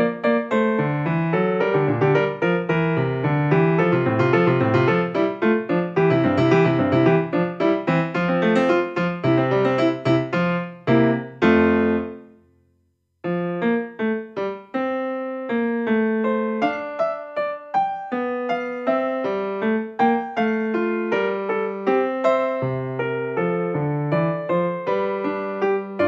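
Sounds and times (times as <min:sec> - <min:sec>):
piano music: 0:00.0 - 0:12.4, 0:13.2 - 0:26.0.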